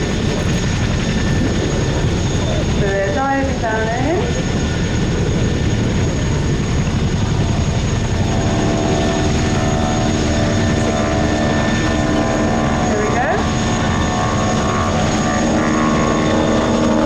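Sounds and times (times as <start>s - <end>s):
biplane engines droning: 0.0s - 17.0s
steady propeller tone: 0.0s - 17.0s.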